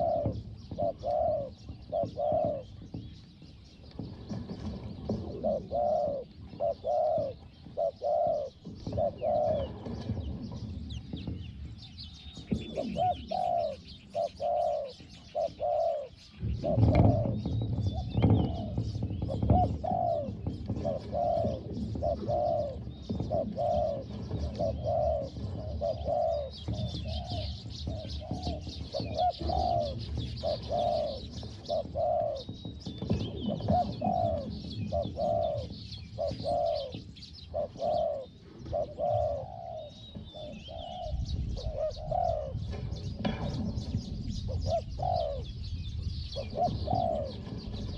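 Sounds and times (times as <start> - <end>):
doves cooing: 0.0 - 47.9
small birds chirping: 0.0 - 47.9.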